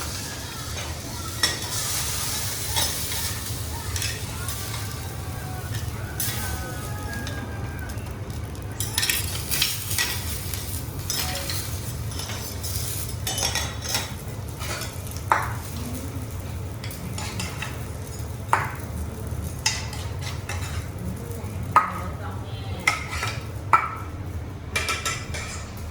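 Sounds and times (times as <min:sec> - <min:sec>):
food sizzling on griddle: 0:00.0 - 0:25.9.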